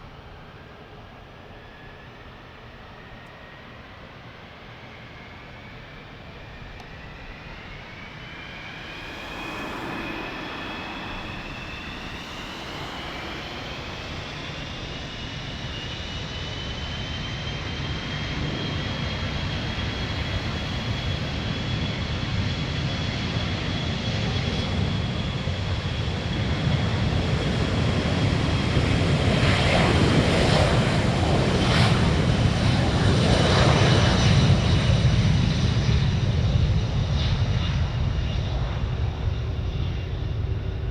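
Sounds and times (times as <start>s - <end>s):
jet aircraft engines whining: 0.0s - 40.9s.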